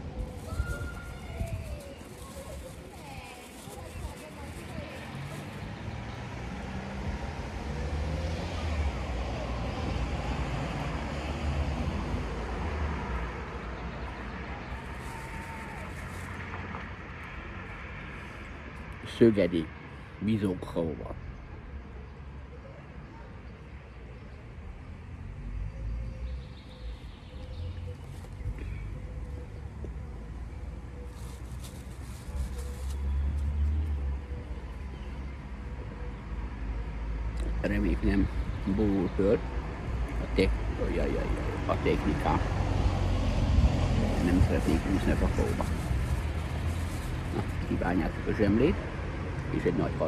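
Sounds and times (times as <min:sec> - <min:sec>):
vehicle passing rumble: 0:00.0 - 0:20.3, 0:24.4 - 0:50.0.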